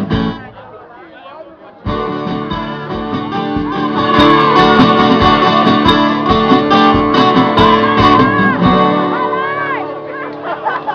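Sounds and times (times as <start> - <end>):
strummed guitar: 0.0 - 0.6, 1.8 - 10.9.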